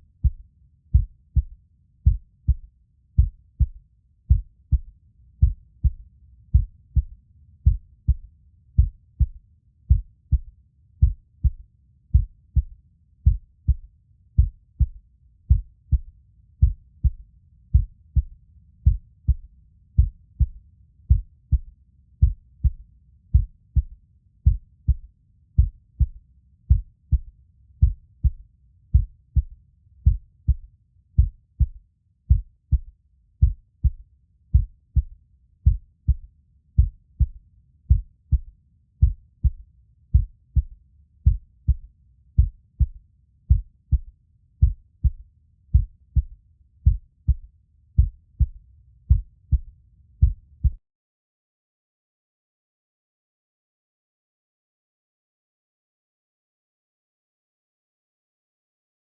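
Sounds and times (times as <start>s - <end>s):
human heartbeat: 0.2s - 50.8s.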